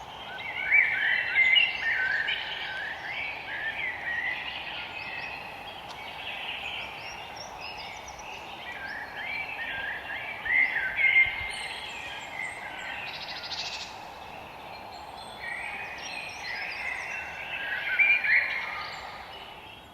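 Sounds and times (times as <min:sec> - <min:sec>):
songbirds chirping and singing: 0:00.0 - 0:19.9
steady background hiss: 0:00.0 - 0:19.9.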